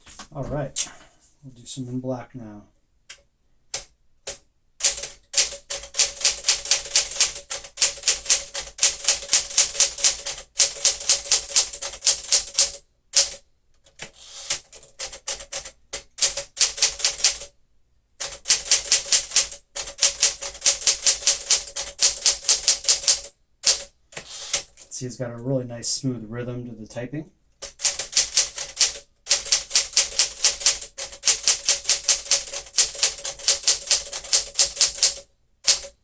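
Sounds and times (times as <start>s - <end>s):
manual typewriter typing: 3.7s - 17.5s, 18.2s - 24.9s, 27.6s - 36.0s.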